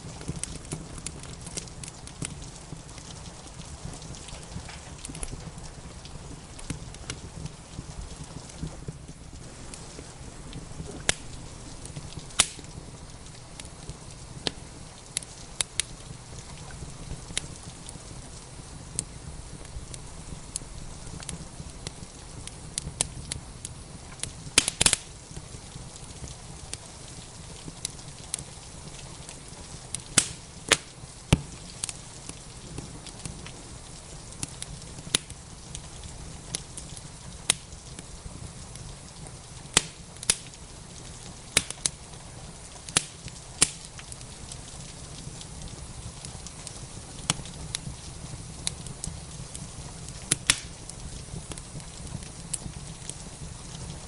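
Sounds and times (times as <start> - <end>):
steady hiss of rain: 0.0 - 54.0
wood fire crackling and popping: 0.0 - 54.0.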